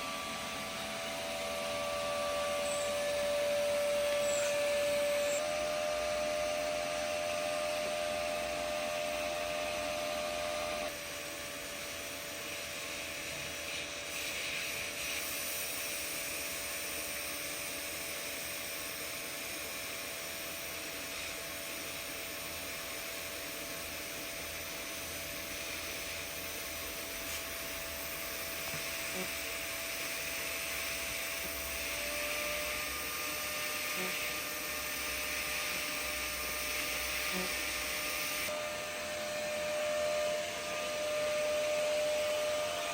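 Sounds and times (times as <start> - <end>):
welding arc humming and hissing: 0.0 - 42.9.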